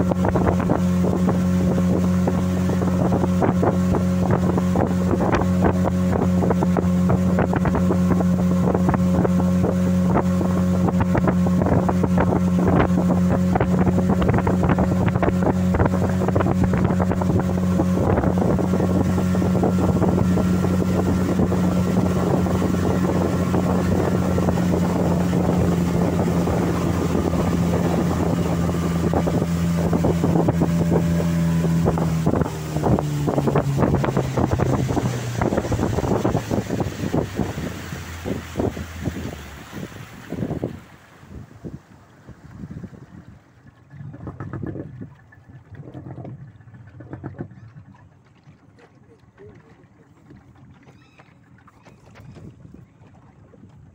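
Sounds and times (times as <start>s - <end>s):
outboard motor running: 0.0s - 53.9s
wind buffeting microphone: 0.0s - 53.9s.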